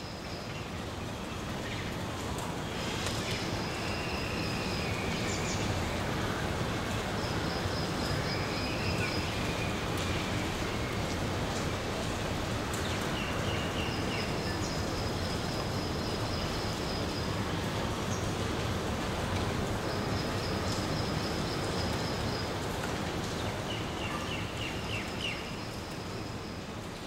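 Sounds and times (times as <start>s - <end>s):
heavy rain falling: 0.1s - 27.0s.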